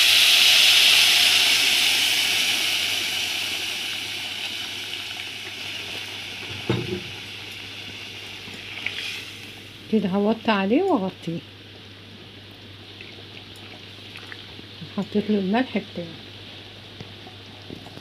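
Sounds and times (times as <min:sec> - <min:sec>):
hissing and sizzling in pot: 0:00.0 - 0:18.0.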